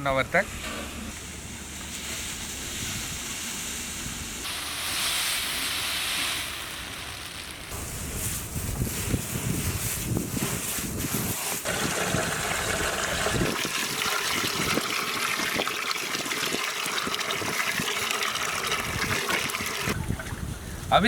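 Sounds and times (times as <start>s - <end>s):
water pouring and splashing: 0.6s - 20.7s.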